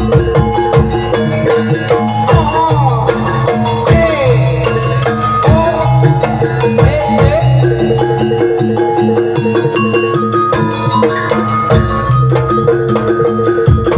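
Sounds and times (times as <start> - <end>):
hand drums beating: 0.0 - 13.9
metallophone notes: 0.0 - 13.9
wavering melodic line: 0.0 - 13.9.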